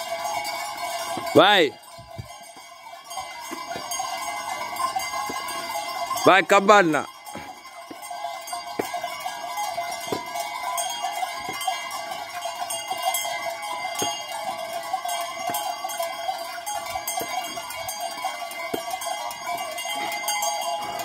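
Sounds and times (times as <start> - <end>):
sheep bells clanking: 0.0 - 21.0.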